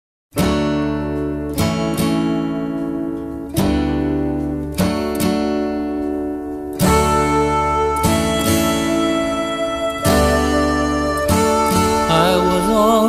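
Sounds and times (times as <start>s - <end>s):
acoustic guitar strumming chords: 0.3s - 13.0s.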